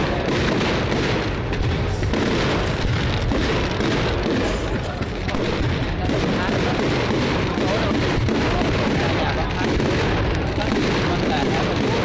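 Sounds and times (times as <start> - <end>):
fireworks booms and bangs: 0.0 - 12.0.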